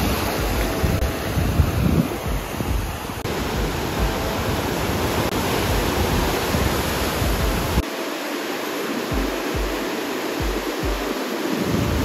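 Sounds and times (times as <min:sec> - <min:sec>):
wind buffeting microphone: 0:00.0 - 0:07.8, 0:09.0 - 0:12.0
ocean surf washing ashore: 0:00.0 - 0:12.0.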